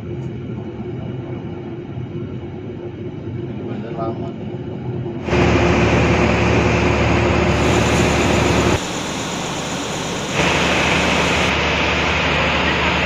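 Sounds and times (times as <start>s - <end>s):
low hum: 0.0s - 13.0s
train running noise inside carriage: 0.0s - 13.0s.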